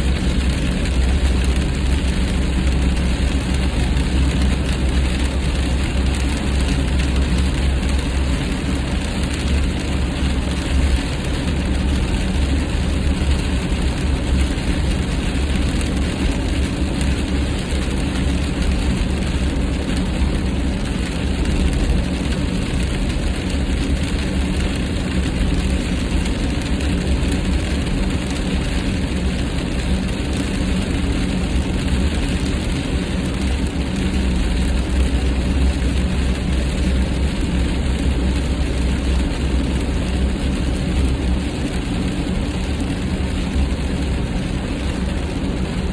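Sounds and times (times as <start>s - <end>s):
car engine and tyre rumble: 0.0s - 45.9s
tyres hissing on wet road: 0.0s - 45.9s.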